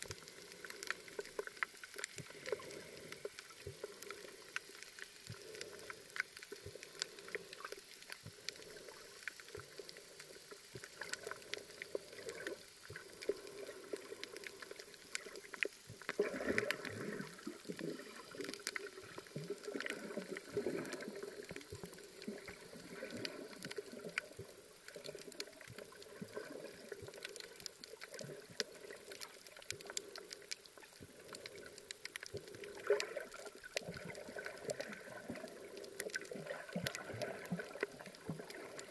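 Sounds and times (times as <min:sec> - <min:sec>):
muffled underwater water movement: 0:00.0 - 0:38.9
small sharp clicks underwater: 0:00.0 - 0:38.9.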